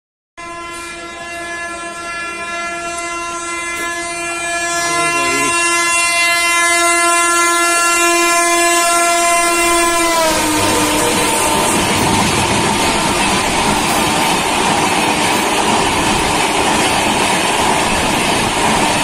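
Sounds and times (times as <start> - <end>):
train horn long blast: 0.4 - 19.0.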